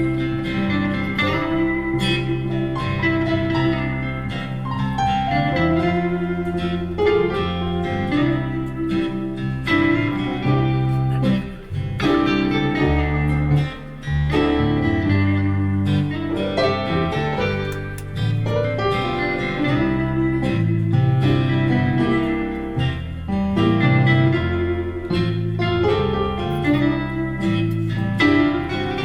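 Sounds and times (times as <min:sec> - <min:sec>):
acoustic guitar picking a melody: 0:00.0 - 0:29.0
steady bass line: 0:00.0 - 0:29.0.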